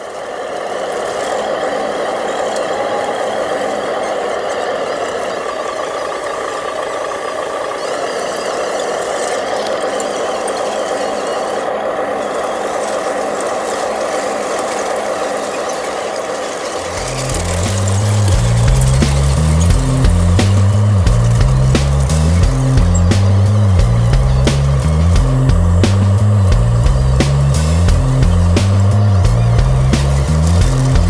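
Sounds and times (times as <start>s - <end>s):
model truck motor running: 0.0s - 31.0s.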